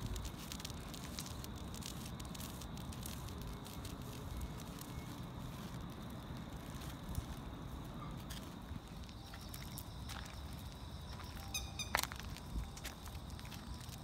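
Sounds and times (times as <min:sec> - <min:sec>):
footsteps on paved path: 0:00.0 - 0:14.0.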